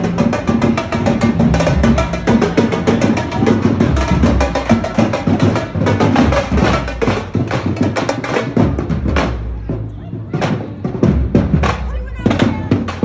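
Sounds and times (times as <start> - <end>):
drumline rapid drum strokes: 0.0 - 13.0
marching band playing: 0.0 - 13.0.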